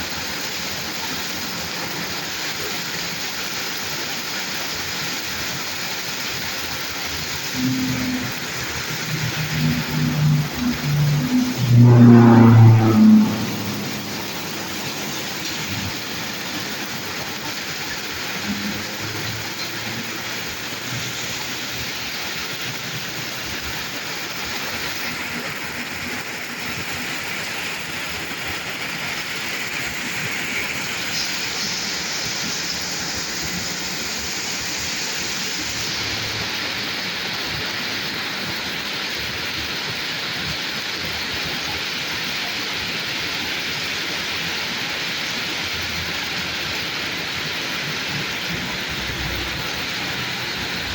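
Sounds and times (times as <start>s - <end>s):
rain falling on a road: 0.0s - 50.9s.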